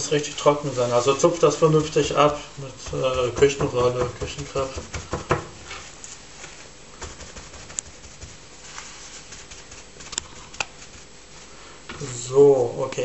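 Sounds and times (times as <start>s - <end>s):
kitchen paper rustling and patting: 0.0s - 11.8s.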